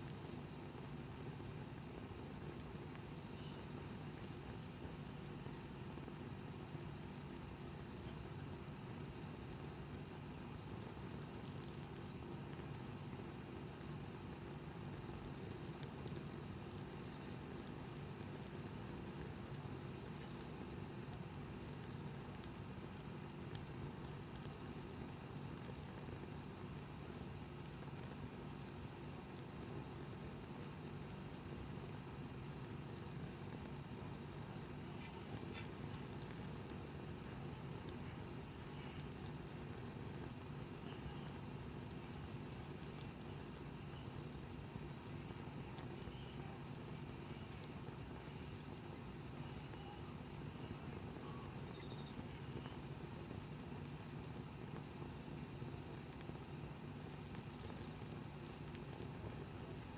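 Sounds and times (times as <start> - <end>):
campfire crackling: 0.1 - 59.9.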